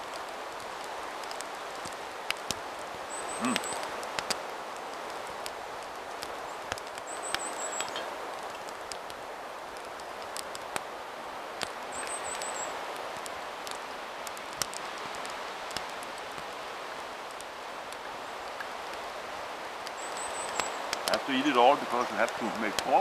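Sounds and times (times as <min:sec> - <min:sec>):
fire crackles: 0:00.0 - 0:23.0
wood fire hissing: 0:00.0 - 0:23.0.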